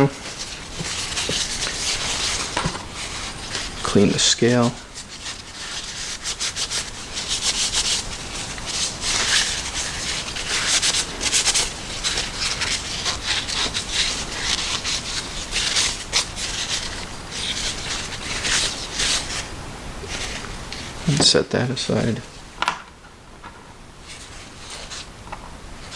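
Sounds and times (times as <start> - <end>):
paper towel rubbing on knife handle: 0.0 - 22.2, 24.0 - 25.2.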